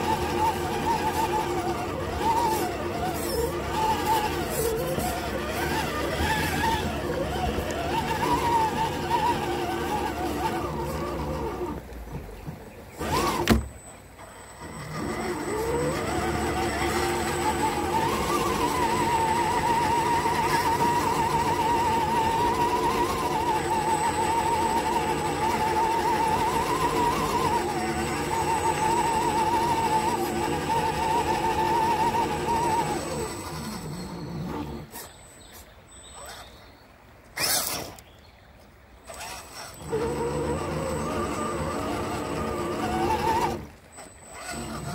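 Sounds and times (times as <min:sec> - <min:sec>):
electric motor and gear whine: 0:00.0 - 0:44.9.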